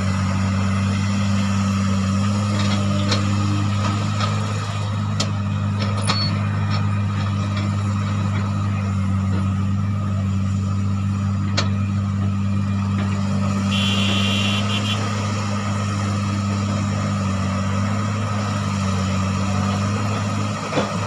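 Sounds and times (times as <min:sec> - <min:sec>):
excavator diesel engine drone: 0:00.0 - 0:21.0.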